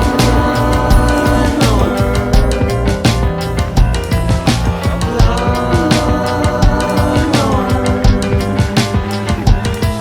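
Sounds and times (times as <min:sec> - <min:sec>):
steady drum beat: 0:00.0 - 0:10.0
sustained guitar or synth notes: 0:00.0 - 0:10.0.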